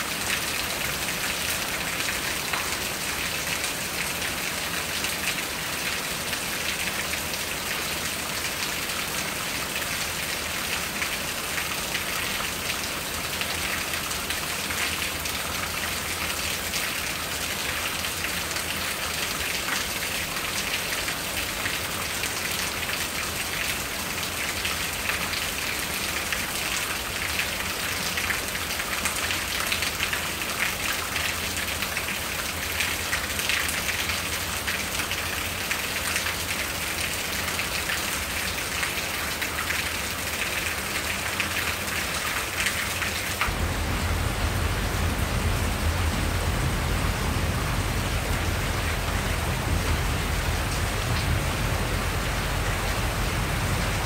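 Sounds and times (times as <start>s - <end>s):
rain on leaves and roof: 0.0s - 54.0s.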